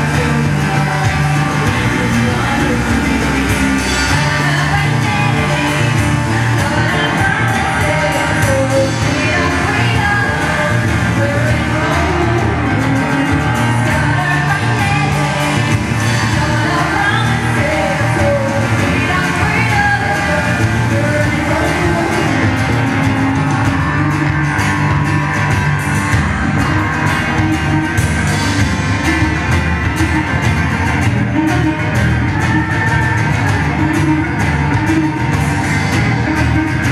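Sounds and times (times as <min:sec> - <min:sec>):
woman singing: 0:00.0 - 0:25.4, 0:31.1 - 0:36.9
bass guitar: 0:00.0 - 0:36.9
drums: 0:00.0 - 0:36.9
electric guitar: 0:00.0 - 0:36.9.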